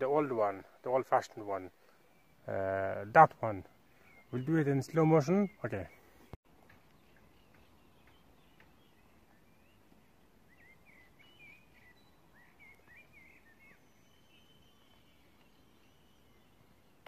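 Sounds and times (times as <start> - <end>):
birds chirping and warbling: 0.0 - 17.0
steady background hiss: 0.0 - 17.0.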